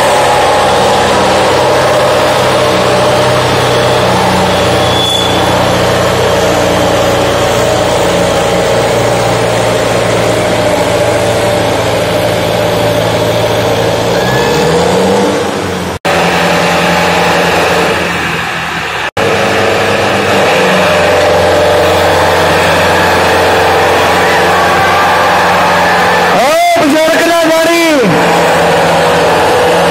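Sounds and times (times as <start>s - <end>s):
tractor diesel engines under load: 0.0s - 29.9s.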